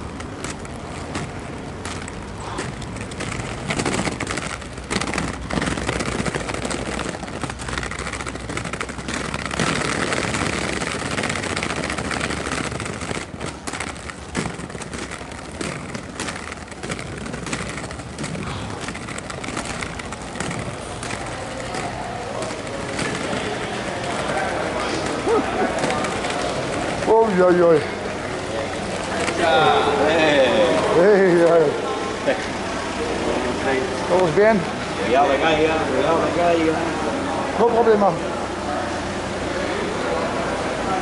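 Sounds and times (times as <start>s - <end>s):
skate wheels rolling on rough road: 0.0s - 41.0s.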